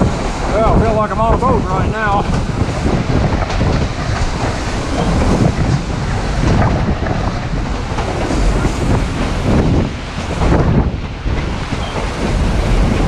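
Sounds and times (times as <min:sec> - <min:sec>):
train rumbling: 0:00.0 - 0:13.0
wind buffeting microphone: 0:00.0 - 0:13.0.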